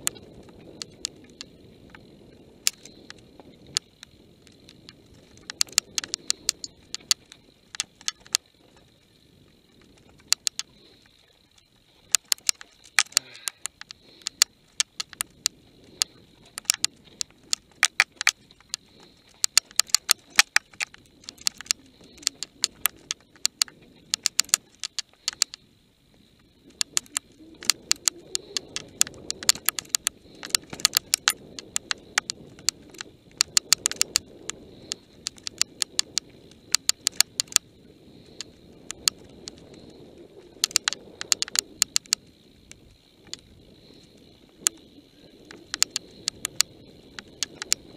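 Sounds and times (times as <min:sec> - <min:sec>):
bike rattling clicks and knocks: 0:00.0 - 0:25.7, 0:26.4 - 0:47.9
wind: 0:00.0 - 0:47.9.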